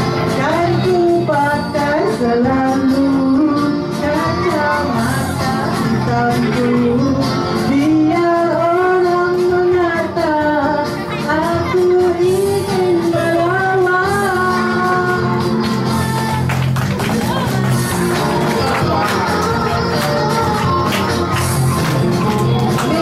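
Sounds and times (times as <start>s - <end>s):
musical backing track: 0.0s - 23.0s
woman singing into microphone: 0.3s - 16.5s, 18.2s - 23.0s.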